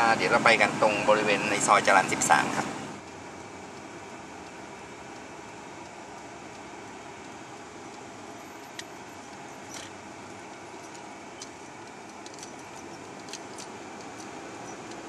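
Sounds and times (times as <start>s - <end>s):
car cabin driving hum: 0.0s - 15.0s.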